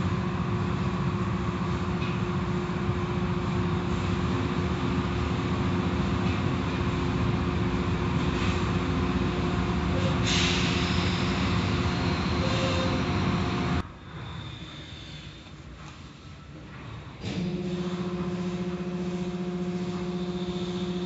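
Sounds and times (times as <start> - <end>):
car wash machinery hum: 0.0 - 14.1, 15.5 - 21.0.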